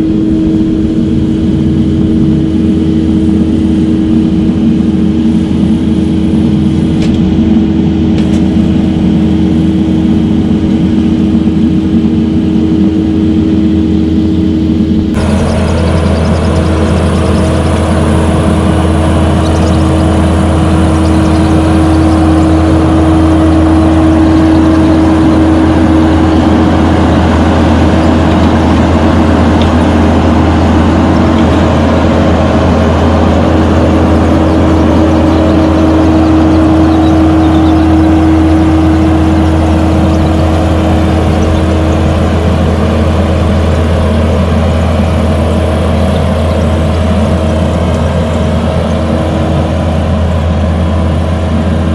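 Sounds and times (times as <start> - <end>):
diesel engine running: 0.0 - 51.9
steady mechanical whine: 0.0 - 51.9.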